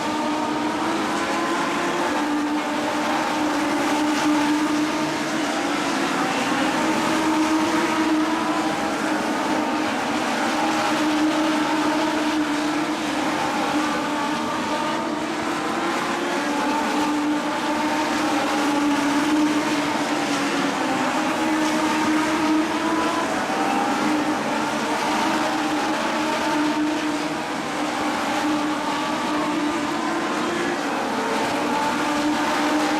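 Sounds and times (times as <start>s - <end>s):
race car engines at high revs: 0.0s - 32.9s.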